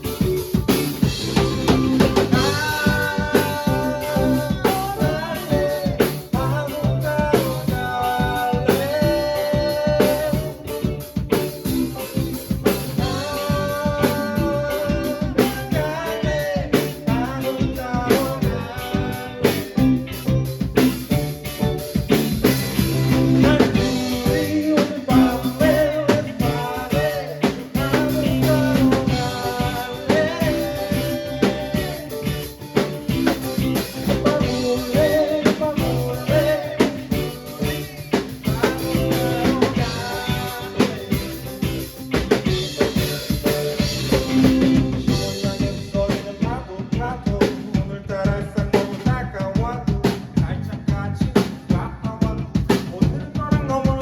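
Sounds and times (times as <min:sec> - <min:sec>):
person singing: 0:00.0 - 0:20.7, 0:22.7 - 0:54.0
band playing: 0:00.0 - 0:54.0
drum kit with snare rimshots: 0:00.0 - 0:54.0
guitar: 0:00.0 - 0:54.0.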